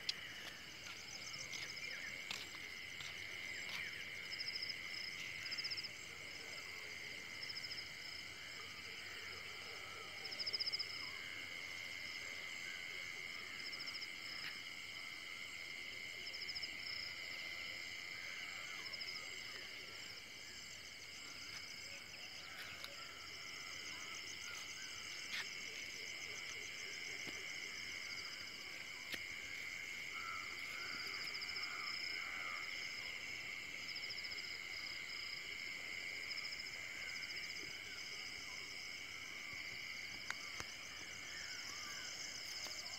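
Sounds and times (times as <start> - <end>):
insects trilling: 6.9 - 42.9.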